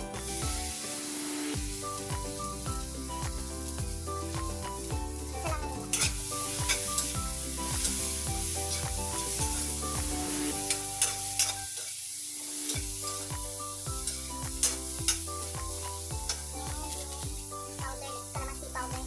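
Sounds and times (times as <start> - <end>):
background music: 0.0 - 19.0
cabbage sizzling in a wok: 0.0 - 19.0.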